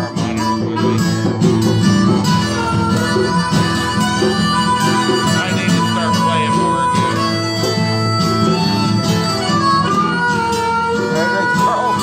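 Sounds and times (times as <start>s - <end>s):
acoustic guitars strumming: 0.0s - 12.0s
harmonica through microphone: 0.0s - 12.0s.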